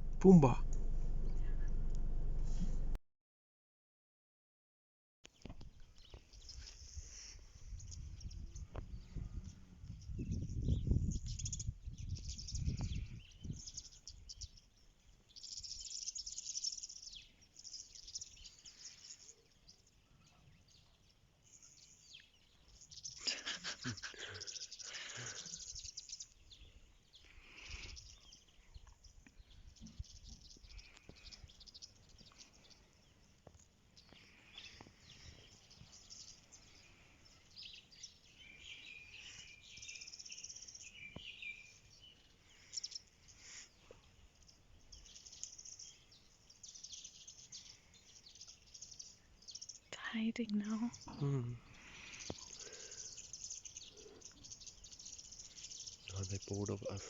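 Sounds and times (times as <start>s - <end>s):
faint birds chirping: 0.0s - 2.9s, 5.2s - 57.0s.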